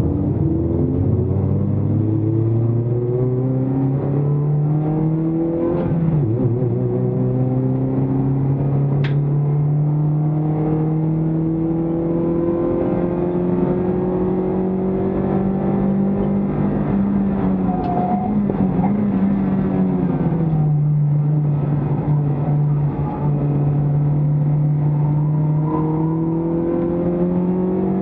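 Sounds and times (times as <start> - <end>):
race car engine pulling hard: 0.0 - 28.0.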